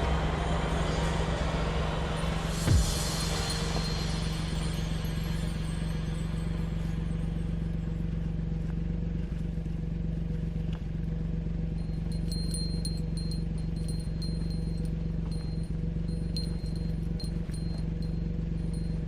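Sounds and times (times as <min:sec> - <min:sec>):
car engine idling: 0:00.0 - 0:19.0
light high-pitched clinks: 0:00.6 - 0:09.6, 0:10.6 - 0:19.0.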